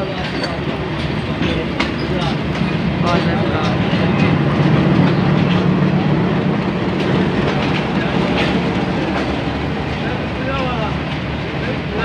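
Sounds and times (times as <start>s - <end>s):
irregular wheel clatter: 0.0s - 12.0s
train wheels rumbling on rails: 0.0s - 12.0s.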